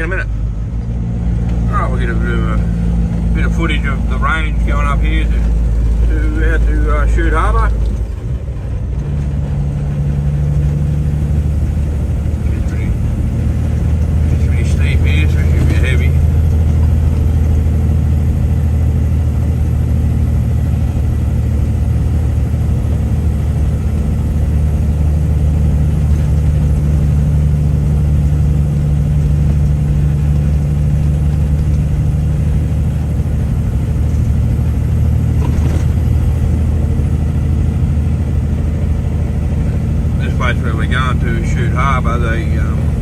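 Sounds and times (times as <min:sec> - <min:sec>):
truck engine labouring: 0:00.0 - 0:43.0.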